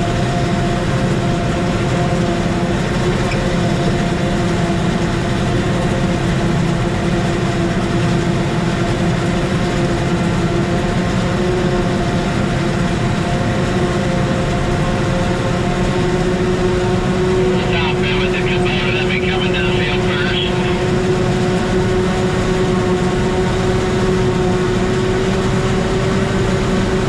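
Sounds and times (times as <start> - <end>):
tractor engine droning: 0.0 - 27.0.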